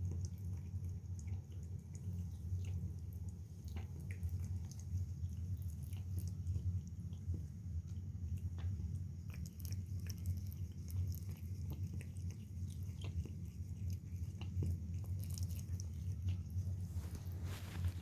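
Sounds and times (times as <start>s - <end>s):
cat chewing: 0.0s - 18.0s
steady low hum: 0.0s - 18.0s.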